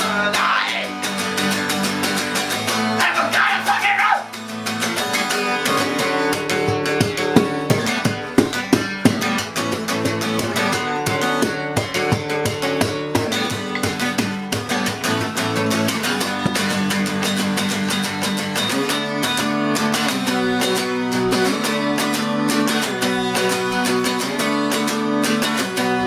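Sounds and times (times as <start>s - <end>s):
acoustic guitar strummed fast: 0.0s - 26.0s.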